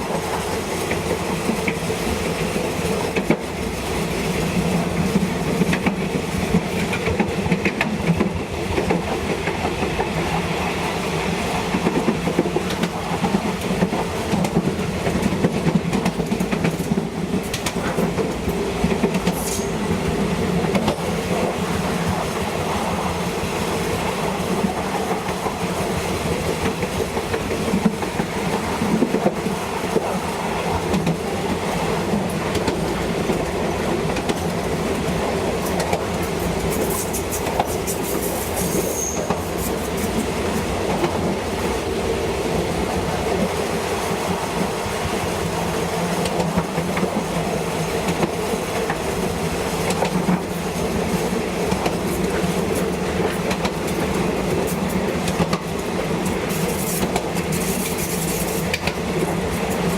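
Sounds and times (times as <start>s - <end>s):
train clattering clicks: 0.0s - 59.9s
train wheels rumbling on rail: 0.0s - 59.9s.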